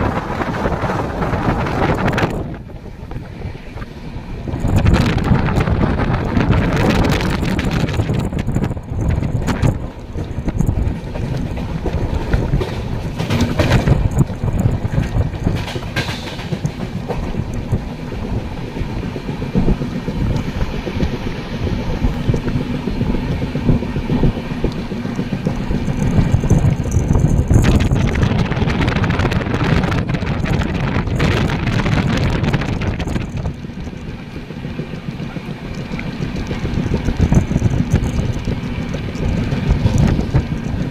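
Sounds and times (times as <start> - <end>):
train wheels clattering on track: 0.0 - 40.9
wind buffeting microphone: 0.0 - 40.9.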